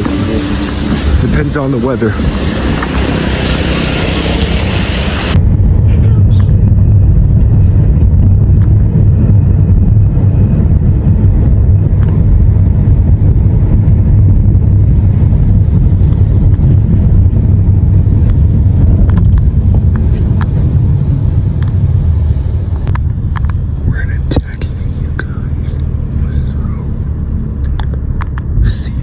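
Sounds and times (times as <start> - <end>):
road vehicle rumble: 0.0 - 29.0.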